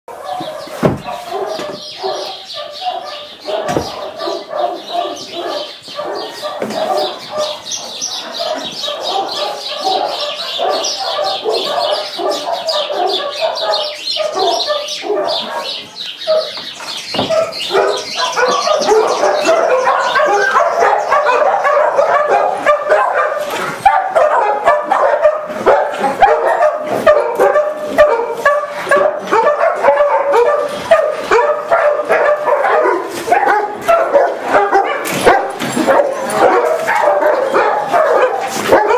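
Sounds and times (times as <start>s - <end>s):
dogs barking and yipping: 0.1s - 38.9s.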